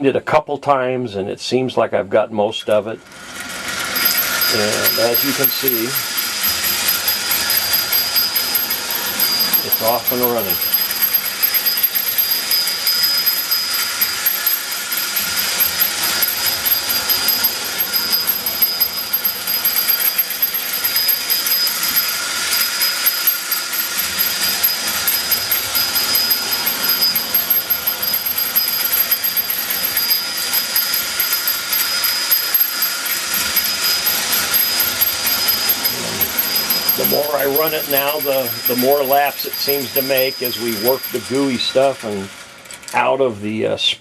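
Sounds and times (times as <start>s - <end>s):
clockwork toy train clicking: 3.0s - 43.3s
toy train bell ringing: 3.2s - 43.2s.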